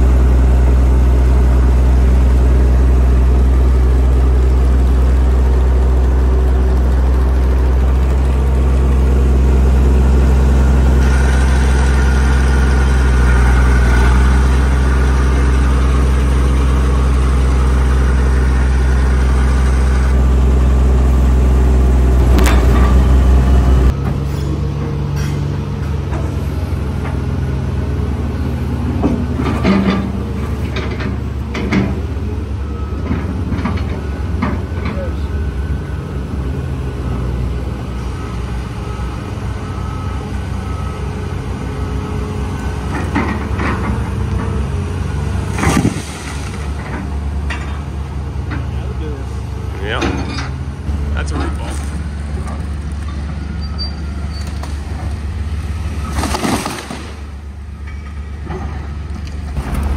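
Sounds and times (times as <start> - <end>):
dozer diesel engine running: 0.0 - 59.9
hydraulic excavator working: 0.0 - 59.9.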